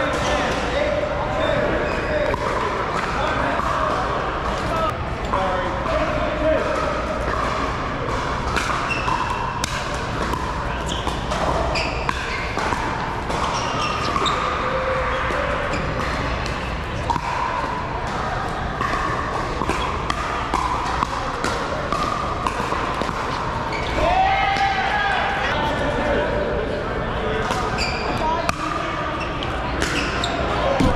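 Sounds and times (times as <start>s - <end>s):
echoing hall noise: 0.0s - 30.9s
murmur of voices: 0.0s - 30.9s.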